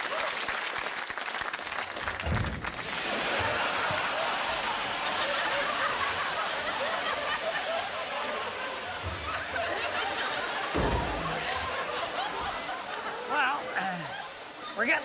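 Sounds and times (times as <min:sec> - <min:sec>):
studio audience laughing: 0:02.8 - 0:15.0.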